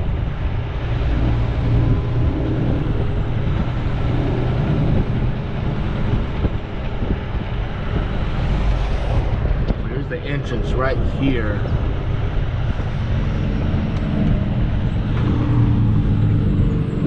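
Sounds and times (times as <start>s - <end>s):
diesel truck engine: 0.0s - 17.0s
road noise: 0.0s - 17.0s.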